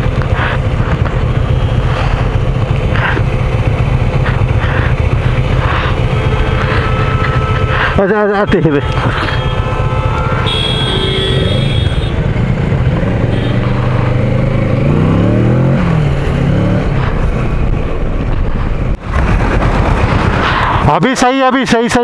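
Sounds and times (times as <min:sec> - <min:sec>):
motorcycle engine accelerating: 0:00.0 - 0:20.8.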